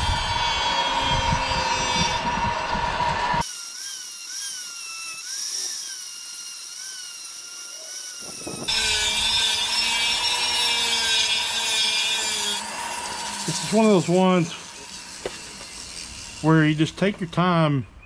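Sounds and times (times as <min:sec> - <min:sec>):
rotary tool sanding wood: 0:00.0 - 0:17.2.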